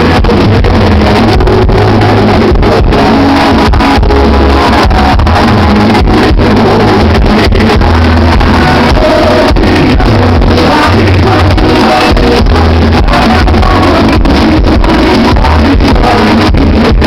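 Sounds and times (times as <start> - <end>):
live band and singers: 0.0 - 17.0.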